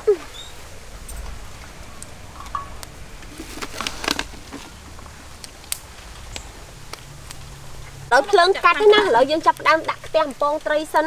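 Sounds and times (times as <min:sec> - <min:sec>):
twigs clicking and snapping: 0:00.2 - 0:11.0.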